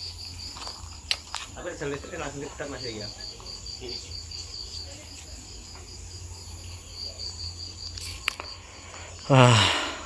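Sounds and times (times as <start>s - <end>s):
insect chirping: 0.0s - 10.0s.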